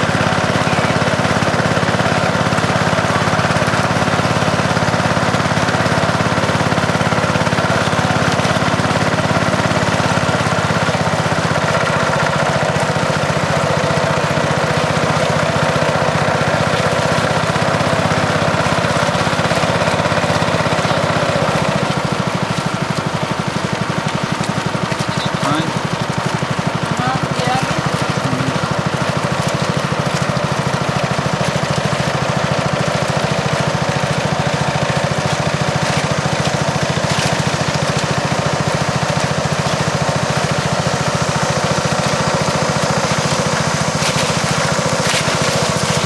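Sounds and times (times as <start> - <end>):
small boat engine puttering: 0.0 - 46.0.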